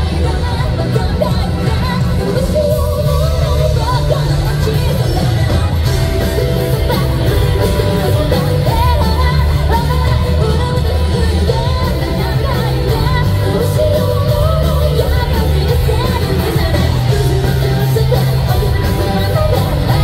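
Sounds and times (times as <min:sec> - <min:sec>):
live rock band: 0:00.0 - 0:20.0.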